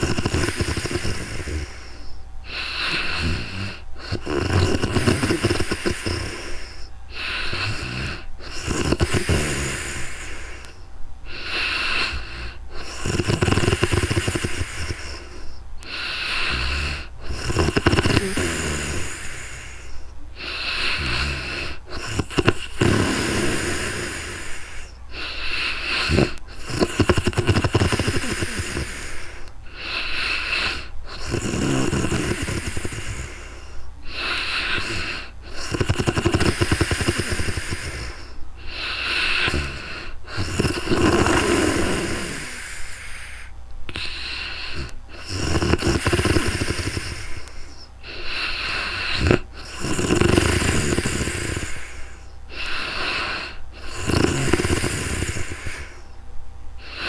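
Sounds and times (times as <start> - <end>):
woman snoring: 0.0 - 56.1, 56.8 - 57.0.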